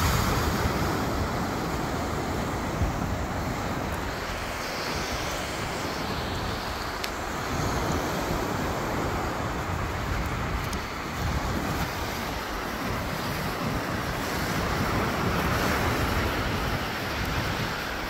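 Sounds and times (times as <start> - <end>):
small waves breaking on beach: 0.0 - 18.0
wind buffeting microphone: 0.0 - 18.0.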